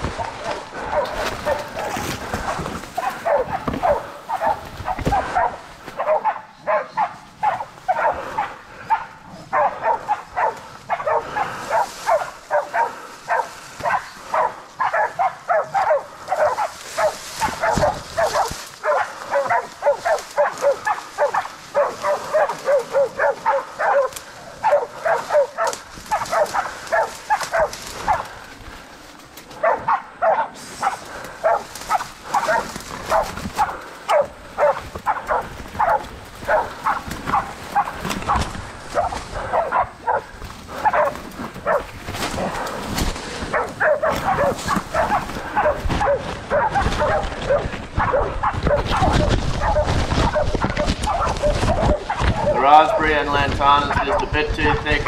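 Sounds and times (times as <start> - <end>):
dogs barking rapidly: 0.0 - 28.7, 29.5 - 55.0.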